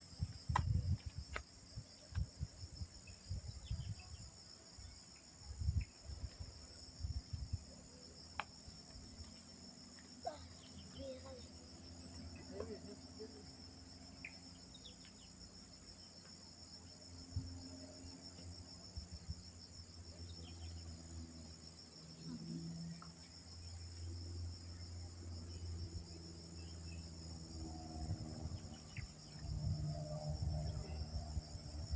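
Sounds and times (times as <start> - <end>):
insect chorus trilling: 0.0 - 31.9.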